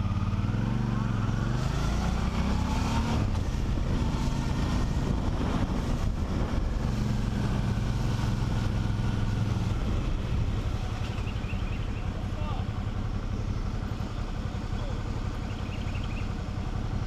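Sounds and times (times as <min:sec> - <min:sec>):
motorcycle engine at low speed: 0:00.0 - 0:17.0
road and wind noise: 0:00.0 - 0:17.0.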